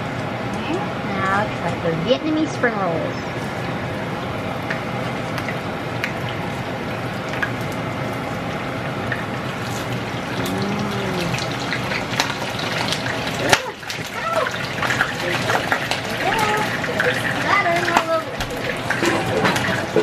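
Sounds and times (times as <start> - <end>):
food deep-frying in hot oil: 0.0 - 20.0
oil popping and crackling: 3.4 - 20.0.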